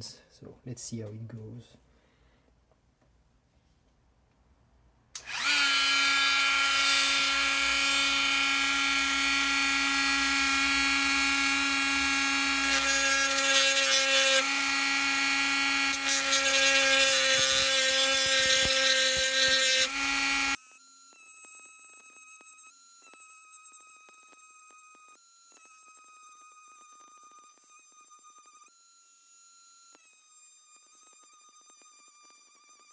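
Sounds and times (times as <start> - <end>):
rotary tool whining: 5.2 - 32.9.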